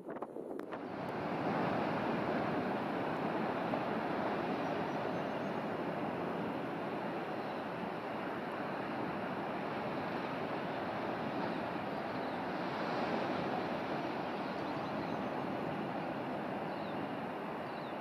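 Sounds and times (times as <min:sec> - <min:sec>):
surf rushing: 0:00.0 - 0:18.0
wind: 0:00.0 - 0:18.0.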